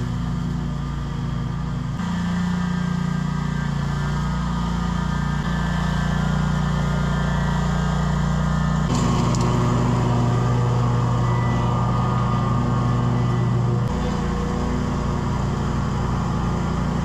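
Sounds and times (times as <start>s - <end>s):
blades cutting grass: 0.0s - 17.0s
mower engine running: 0.0s - 17.0s.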